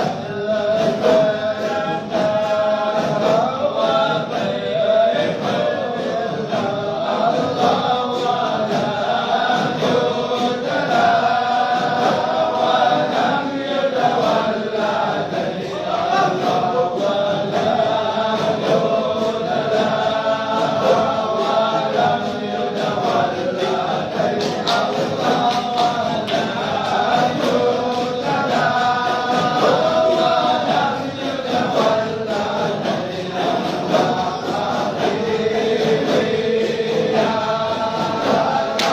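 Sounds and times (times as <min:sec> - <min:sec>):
group of voices chanting: 0:00.0 - 0:38.9.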